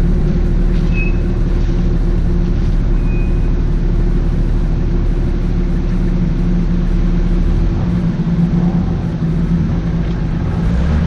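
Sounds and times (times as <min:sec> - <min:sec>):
engine idling at low revs: 0:00.0 - 0:11.0.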